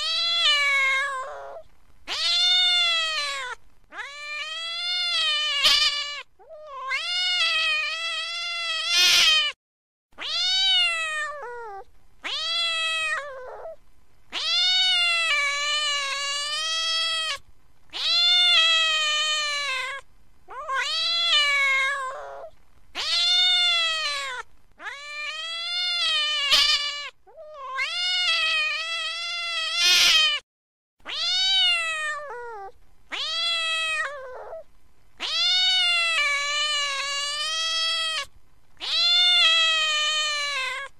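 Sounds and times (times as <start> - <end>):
angry cat yowling: 0.0 - 9.6, 10.2 - 30.4, 31.1 - 34.6, 35.2 - 40.9.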